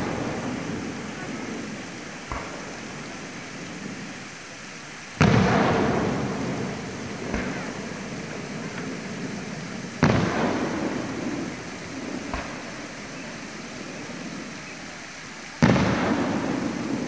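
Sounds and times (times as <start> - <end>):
fainter firework bang: 0.0 - 4.0, 5.2 - 14.4, 15.6 - 17.0
firework shells bursting with booms: 0.0 - 17.0.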